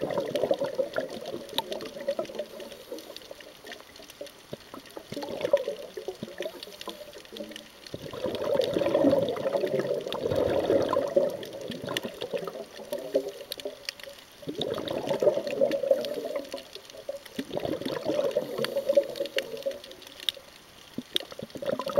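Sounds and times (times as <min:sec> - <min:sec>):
underwater bubbling of exhaled breath: 0:00.0 - 0:21.9.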